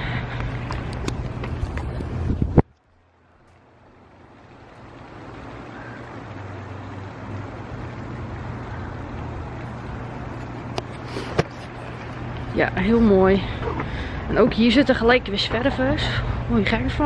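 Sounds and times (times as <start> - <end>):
low city rumble with hum: 0.0 - 17.0.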